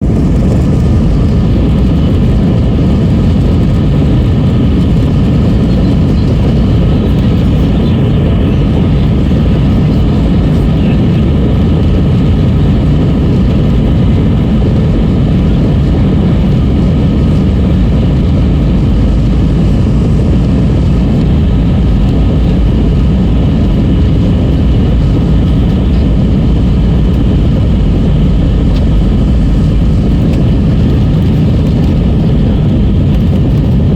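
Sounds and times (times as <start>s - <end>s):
faint engine whine: 0.0s - 33.9s
jet engine low rumble: 0.0s - 33.9s.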